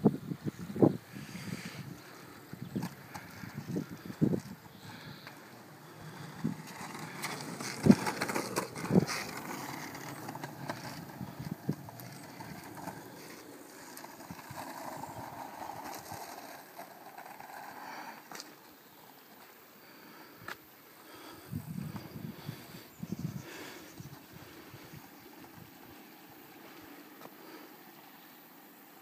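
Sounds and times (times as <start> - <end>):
board wheels rolling on asphalt: 0.0 - 29.0.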